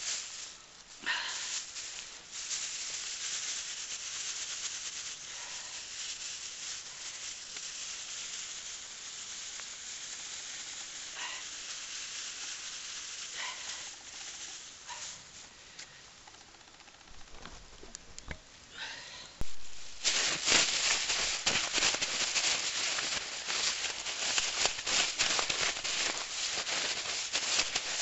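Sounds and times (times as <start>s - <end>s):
plastic bag crinkling with water: 0.0s - 15.6s, 19.4s - 28.0s.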